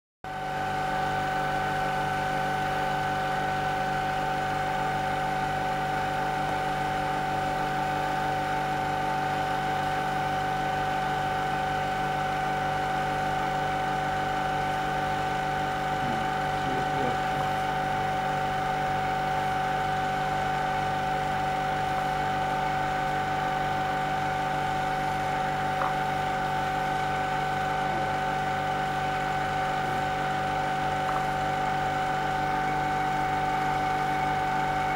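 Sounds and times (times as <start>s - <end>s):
electrical hum with high whine: 0.3s - 34.9s.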